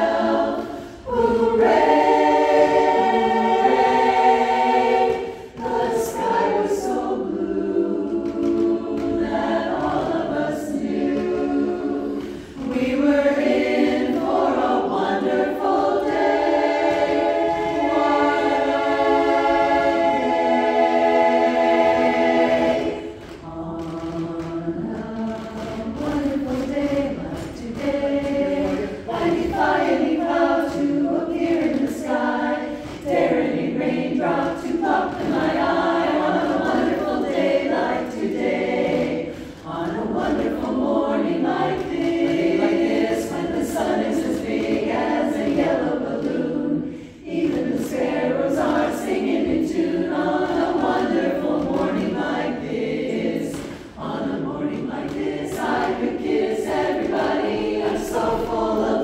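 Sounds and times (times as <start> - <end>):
women's a cappella chorus singing: 0.0 - 59.0.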